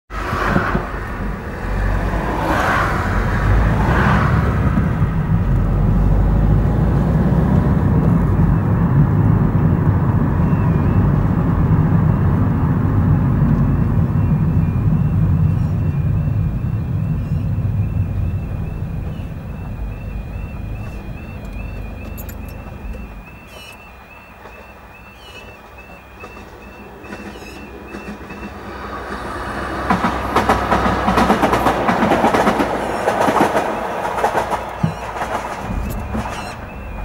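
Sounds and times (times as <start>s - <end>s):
cars swishing past: 0.1s - 23.8s, 26.2s - 37.0s
engine and tyre rumble: 0.1s - 37.0s.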